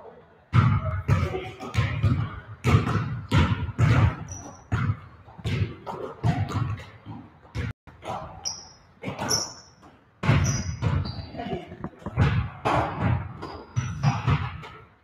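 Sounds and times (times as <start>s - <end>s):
basketballs bouncing on gym floor: 0.5s - 14.9s.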